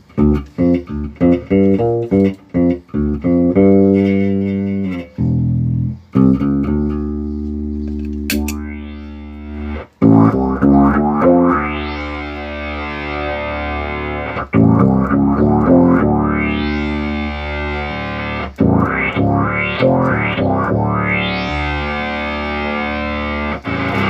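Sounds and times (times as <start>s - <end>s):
synth-like distorted bass guitar: 0.0s - 24.0s.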